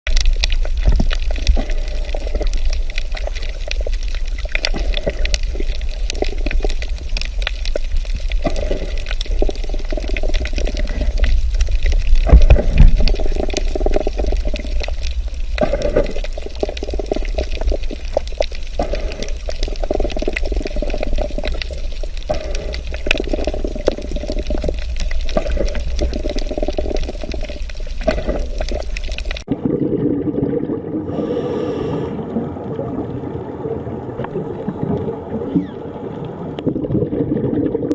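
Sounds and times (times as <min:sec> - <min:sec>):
low underwater rumble: 0:00.1 - 0:37.9
underwater gurgling and bubbling: 0:00.1 - 0:37.9.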